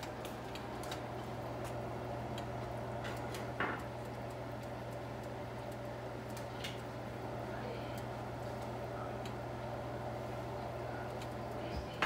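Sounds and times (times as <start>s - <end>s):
broth bubbling at a boil: 0.0s - 12.0s
low steady hum: 0.0s - 12.0s.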